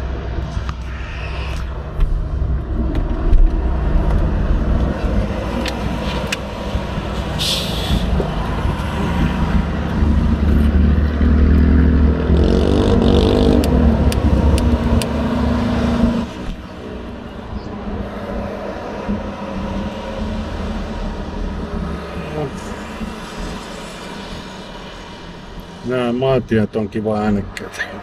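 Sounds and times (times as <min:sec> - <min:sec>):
road traffic passing: 0:00.0 - 0:28.0
truck engine rumble: 0:00.0 - 0:28.0.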